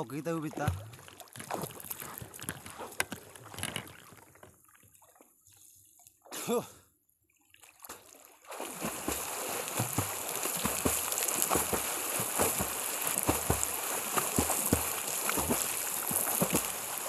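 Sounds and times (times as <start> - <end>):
swimmer splashing water: 0.0 - 5.2, 7.6 - 17.0.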